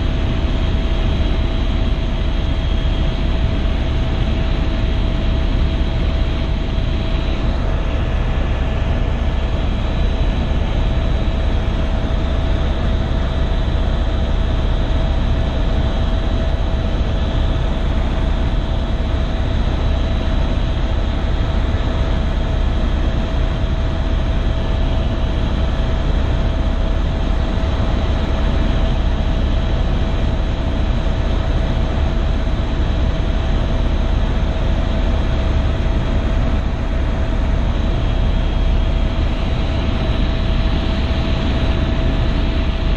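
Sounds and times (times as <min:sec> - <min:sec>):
constant whine: 0:00.0 - 0:42.9
helicopter rotor and engine rumble: 0:00.0 - 0:42.9.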